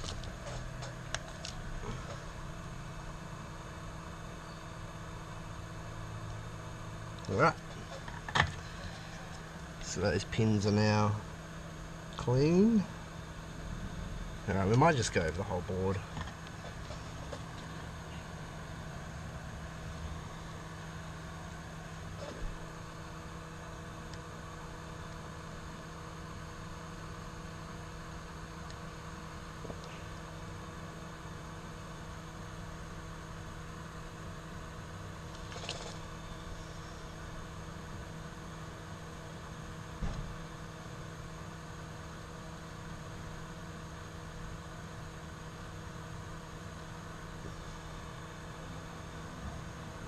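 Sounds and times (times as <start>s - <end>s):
electrical hum: 0.0s - 50.0s
low fan whir: 0.0s - 50.0s.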